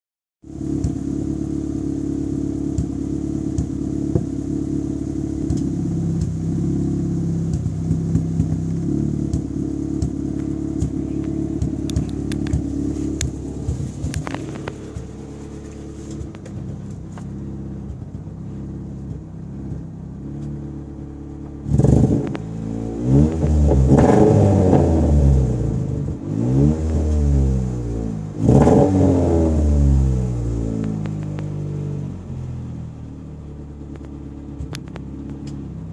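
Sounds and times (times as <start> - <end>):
car engine idling and revving: 0.4 - 35.9.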